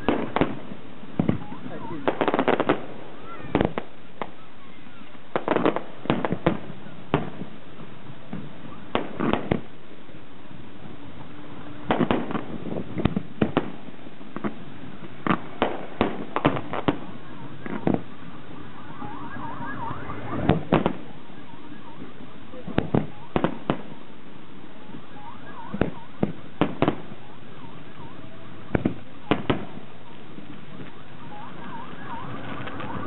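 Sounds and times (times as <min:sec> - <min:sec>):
fireworks bursting with sharp bangs: 0:00.0 - 0:33.0.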